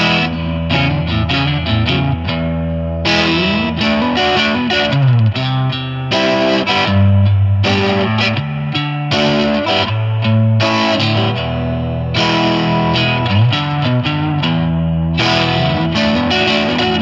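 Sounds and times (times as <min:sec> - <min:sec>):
overdriven electric guitar chords: 0:00.0 - 0:17.0.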